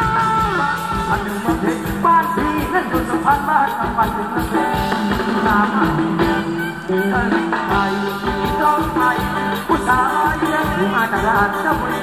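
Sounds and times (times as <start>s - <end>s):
live band playing dance music: 0.0s - 12.0s
steady drum beat: 0.0s - 12.0s.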